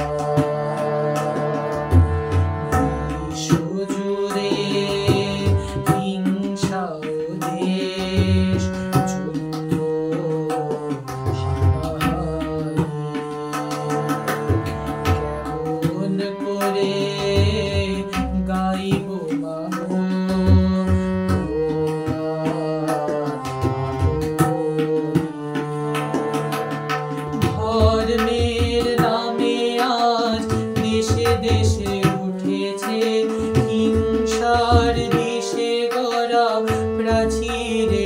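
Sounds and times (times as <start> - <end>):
man singing: 0.0 - 26.4, 27.1 - 38.0
harmonium chords: 0.0 - 38.0.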